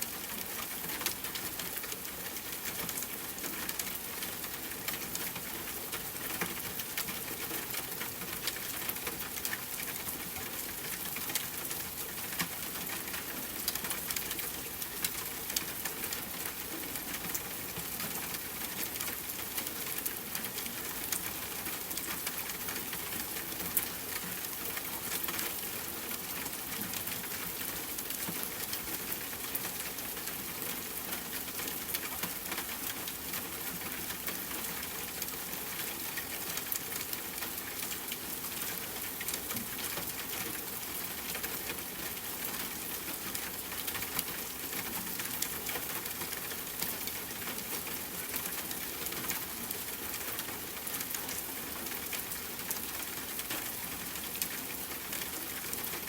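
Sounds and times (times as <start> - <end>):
rain pattering on tent fabric: 0.0 - 56.0.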